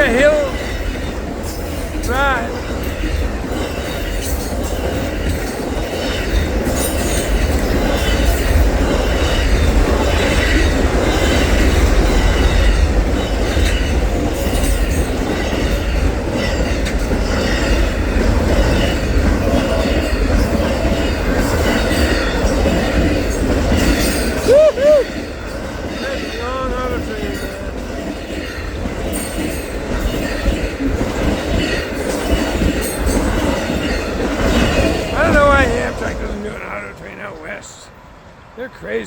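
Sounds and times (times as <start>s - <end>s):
wheels clacking over rail joints: 0.0s - 37.8s
train wheels rumbling on rail: 0.0s - 39.0s.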